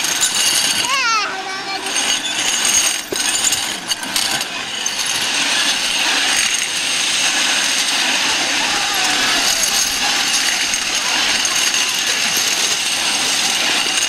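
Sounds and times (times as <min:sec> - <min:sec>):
roller slide rattling: 0:00.0 - 0:14.0.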